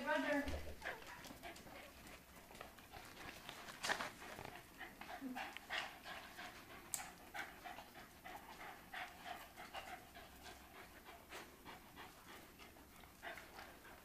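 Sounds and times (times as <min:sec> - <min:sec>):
small dogs panting and sniffing: 0:00.0 - 0:14.0.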